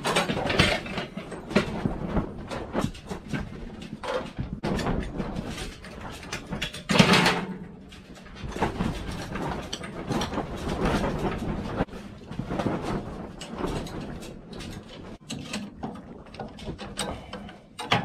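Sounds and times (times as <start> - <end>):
metal knocks clanks and rattles: 0.0 - 18.0
metal scraping clatter: 0.0 - 18.0.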